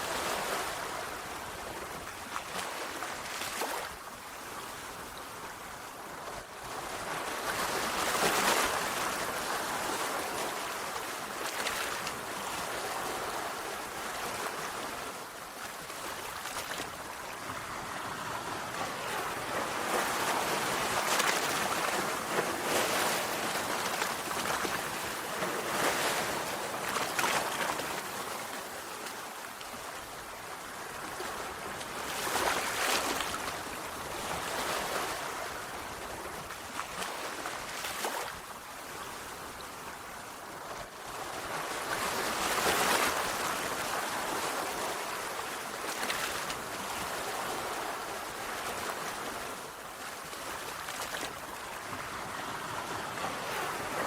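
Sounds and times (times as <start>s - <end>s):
waves breaking on shore: 0.0s - 54.0s.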